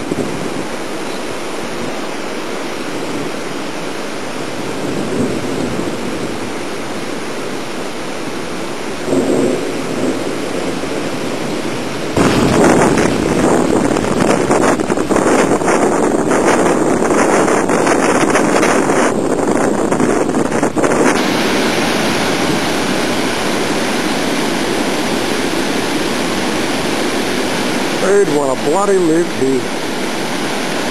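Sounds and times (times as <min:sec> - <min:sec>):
strong wind blowing: 0:00.0 - 0:30.9
wind buffeting the microphone: 0:00.0 - 0:30.9.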